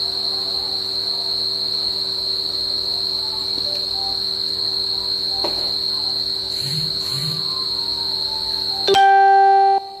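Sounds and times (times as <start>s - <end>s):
steady high-pitched trill: 1.7s - 10.0s.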